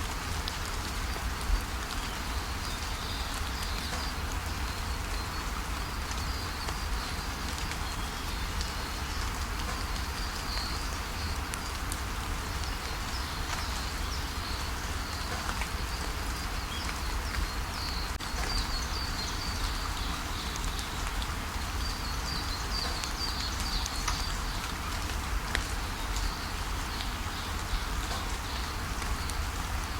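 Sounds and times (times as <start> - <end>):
rain falling: 0.0 - 29.9
small birds chirping: 1.6 - 29.9.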